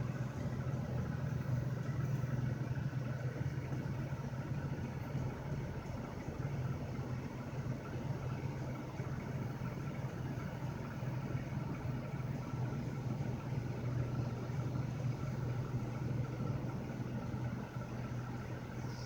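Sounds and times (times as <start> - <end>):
car engine drone inside cabin: 0.0 - 19.0.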